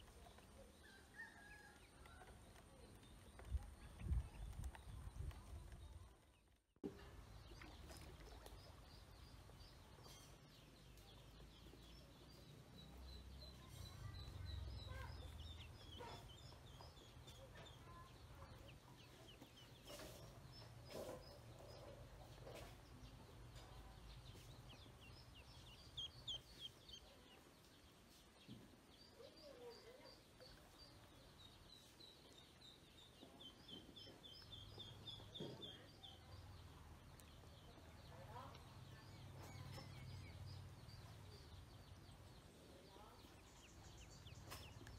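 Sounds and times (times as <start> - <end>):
ducklings peeping: 7.4 - 44.9.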